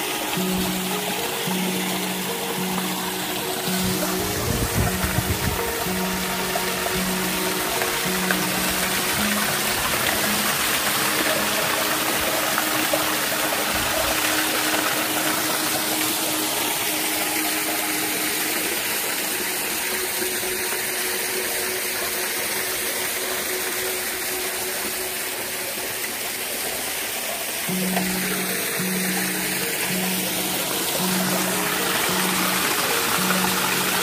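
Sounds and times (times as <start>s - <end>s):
water pouring into a pool: 0.0s - 34.0s.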